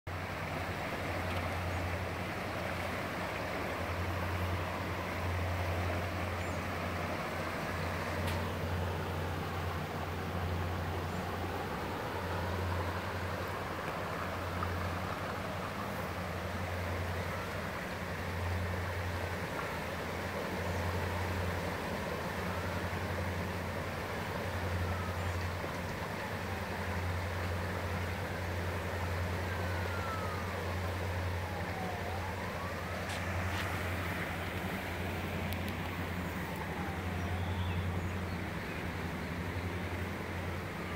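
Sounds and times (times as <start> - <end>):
floodwater rushing: 0.1 - 40.9
distant emergency siren wailing: 0.2 - 40.9.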